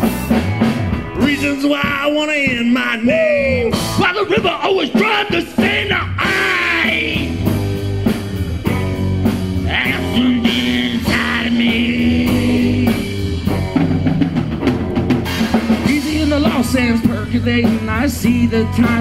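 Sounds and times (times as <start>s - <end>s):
drum kit with cymbals: 0.0s - 19.0s
electric bass: 0.0s - 19.0s
electric guitar: 0.0s - 19.0s.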